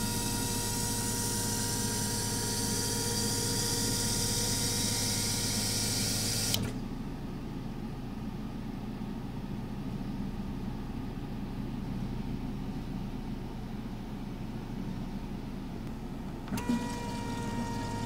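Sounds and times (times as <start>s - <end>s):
test bench hum: 0.0s - 18.0s.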